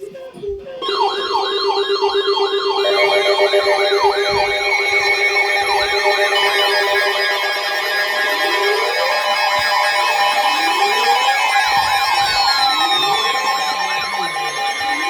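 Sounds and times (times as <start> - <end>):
electronic siren alert: 0.8 - 15.0.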